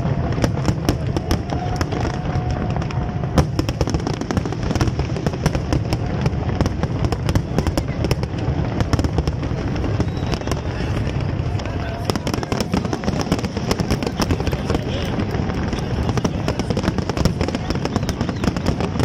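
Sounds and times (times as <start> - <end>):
firework bangs and crackles: 0.0 - 19.0
low rumble of explosions: 0.0 - 19.0.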